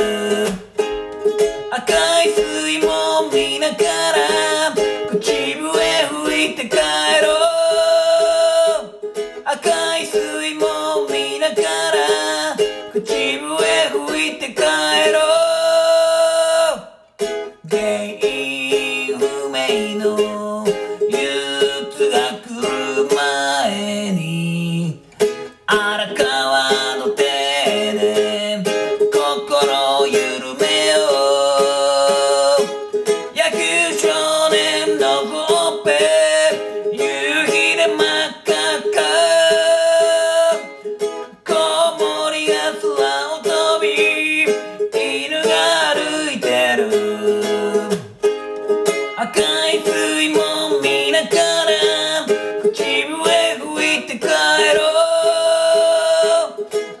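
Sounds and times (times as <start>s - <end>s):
man singing: 0.0s - 0.9s, 1.6s - 17.0s, 17.6s - 48.2s, 49.1s - 57.0s
ukulele strumming: 0.0s - 57.0s.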